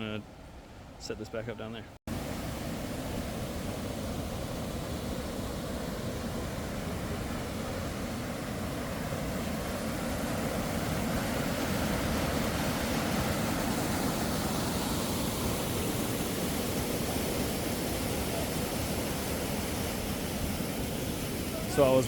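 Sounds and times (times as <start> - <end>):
waterfall rushing: 2.1 - 22.0.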